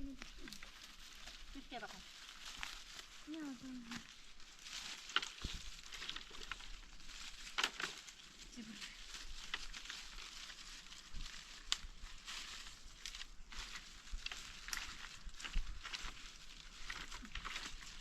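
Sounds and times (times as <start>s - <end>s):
rustling and crackling: 0.0s - 18.0s.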